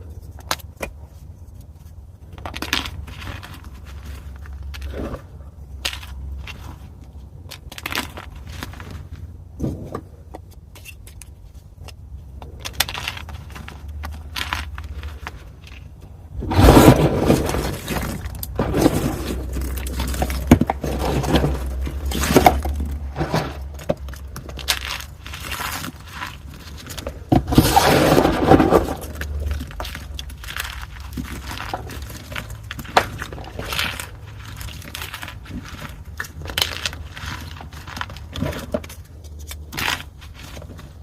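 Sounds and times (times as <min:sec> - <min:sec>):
chalk being crushed and crunching: 0:00.0 - 0:41.0.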